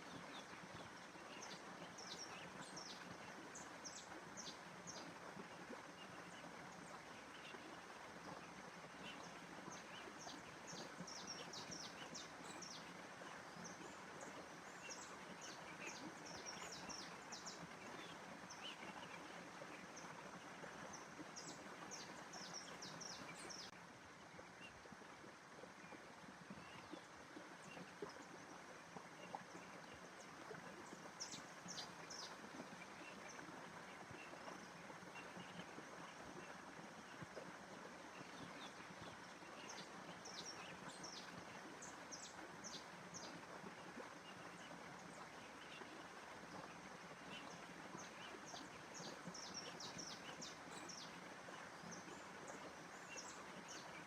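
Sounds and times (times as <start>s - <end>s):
soft steady hiss: 0.0s - 54.0s.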